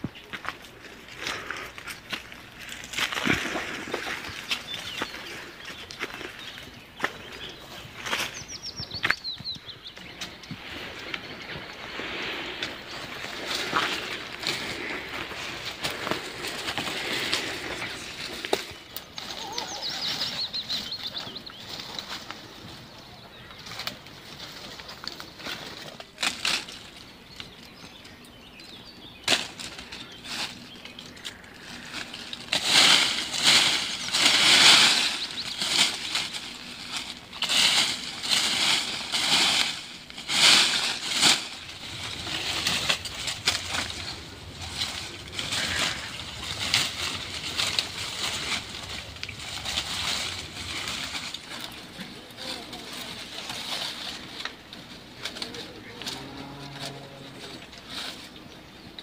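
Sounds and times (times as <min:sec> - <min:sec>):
leaves and twigs rustling: 0:00.0 - 0:59.0.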